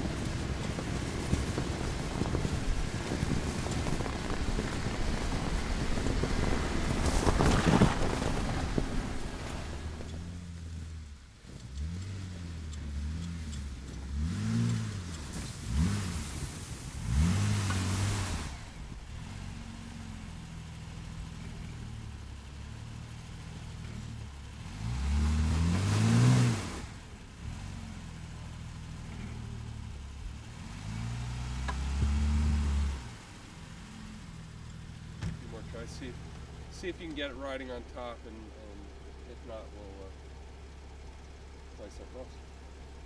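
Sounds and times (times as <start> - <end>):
engine revving: 0.0 - 43.0.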